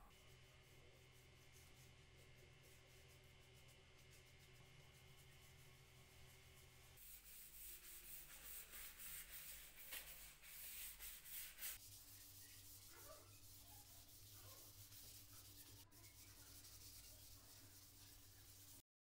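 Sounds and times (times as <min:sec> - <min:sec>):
cloth rag wiping wood: 0:01.1 - 0:18.8.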